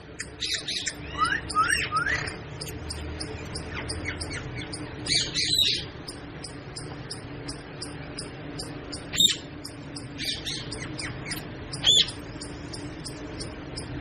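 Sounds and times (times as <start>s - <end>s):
faint high chirping: 0.0s - 14.0s
parrot squawking: 0.1s - 14.0s.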